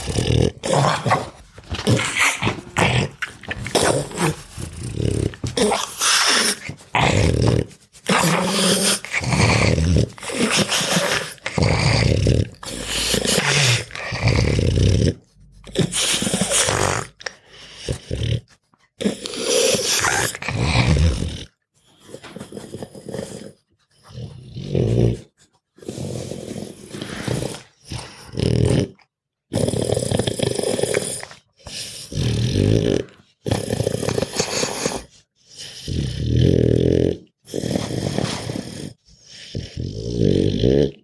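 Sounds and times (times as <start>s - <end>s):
dog growling: 0.0s - 41.0s.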